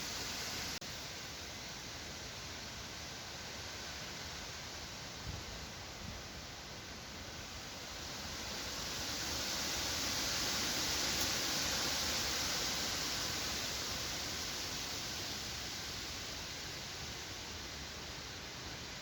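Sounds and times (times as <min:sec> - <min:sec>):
wind through trees: 0:00.0 - 0:19.0.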